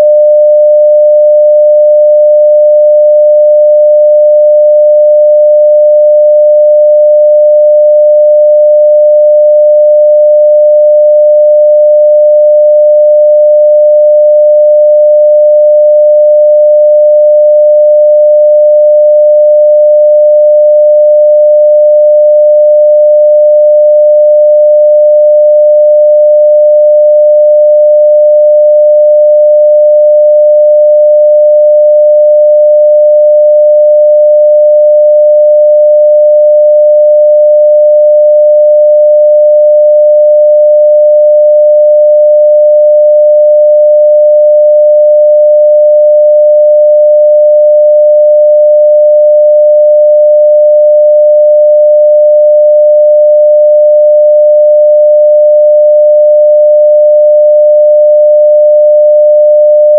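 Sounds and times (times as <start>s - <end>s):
sine-wave test tone: 0.0s - 59.9s.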